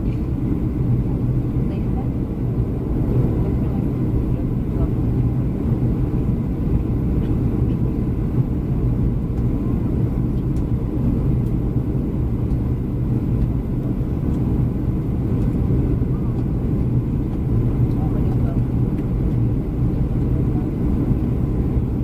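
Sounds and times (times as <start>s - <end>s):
airliner cabin engine rumble: 0.0s - 22.0s
constant low hum: 0.0s - 22.0s.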